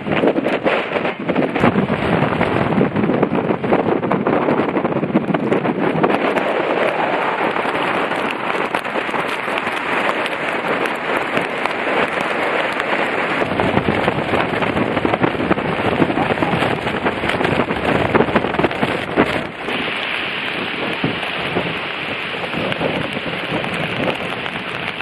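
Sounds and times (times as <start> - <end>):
driving rain on microphone: 0.0 - 25.0
hurricane wind gusts: 0.0 - 25.0.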